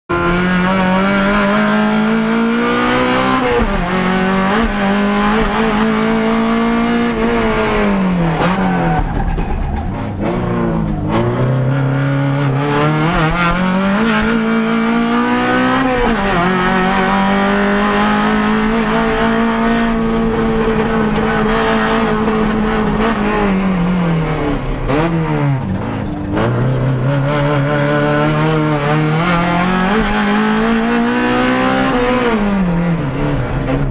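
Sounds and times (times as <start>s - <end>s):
race car engine revving: 0.1s - 33.9s.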